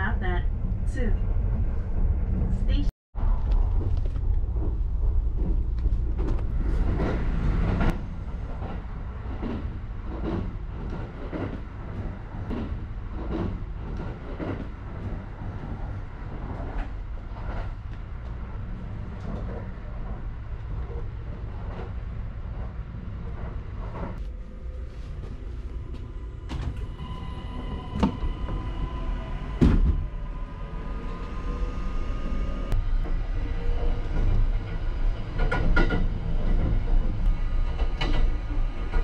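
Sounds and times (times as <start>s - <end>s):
train interior rumble: 0.0s - 39.0s.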